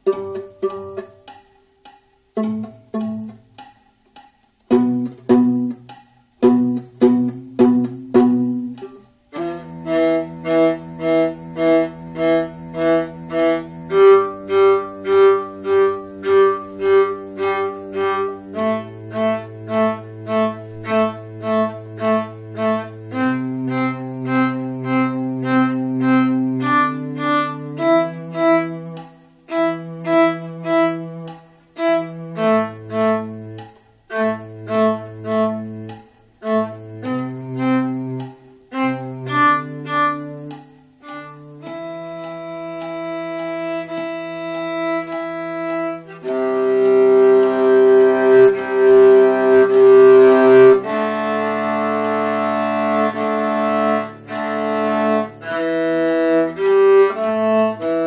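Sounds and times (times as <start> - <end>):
software cello playback: 0.0 - 58.0
viola playing: 0.0 - 58.0.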